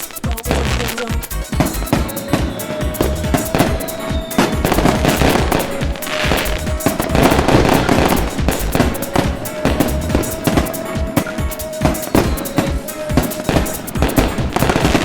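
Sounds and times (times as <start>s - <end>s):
background music with held tone: 0.0s - 15.0s
fireworks banging and crackling: 0.0s - 15.0s.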